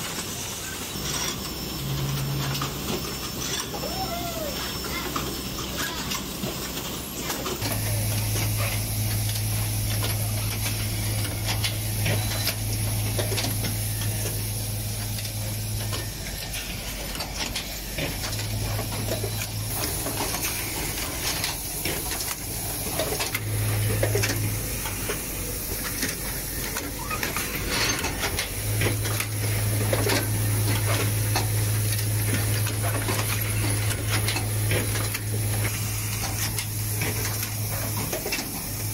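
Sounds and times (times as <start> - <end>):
pneumatic hiss: 0.0 - 38.9.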